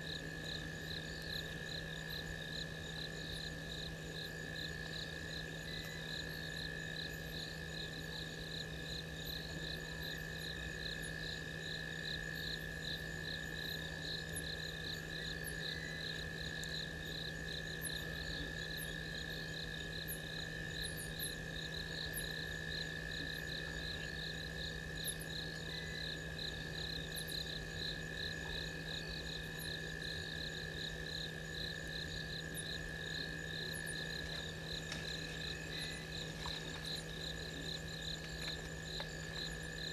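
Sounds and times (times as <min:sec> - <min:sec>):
crickets and insects trilling: 0:00.0 - 0:39.9
low steady hum: 0:00.0 - 0:39.9
pulsing insect chirp: 0:00.0 - 0:39.9.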